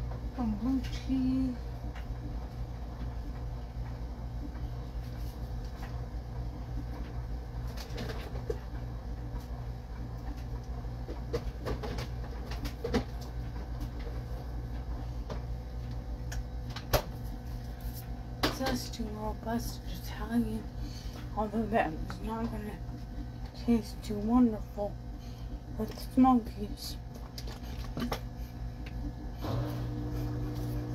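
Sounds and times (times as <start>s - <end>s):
low room hum: 0.0s - 30.9s.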